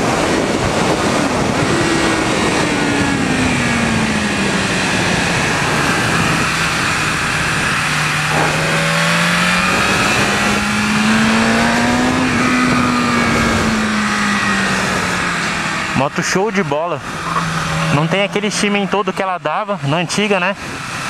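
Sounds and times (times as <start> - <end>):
motorcycle engine revving: 0.0 - 21.0
wind roar on microphone: 0.0 - 21.0.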